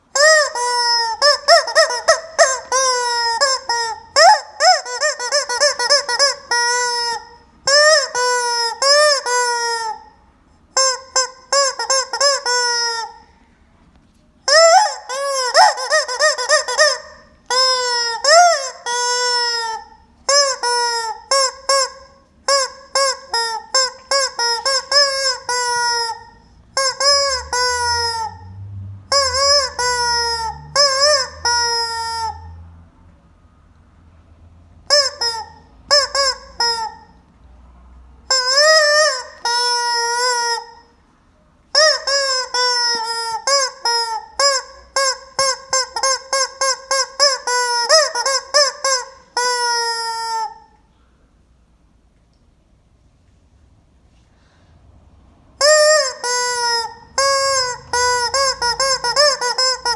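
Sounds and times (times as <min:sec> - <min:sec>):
squeaking rubber chicken toy: 0:00.0 - 0:13.4, 0:14.4 - 0:32.6, 0:34.8 - 0:37.3, 0:38.2 - 0:50.8, 0:55.6 - 0:59.9.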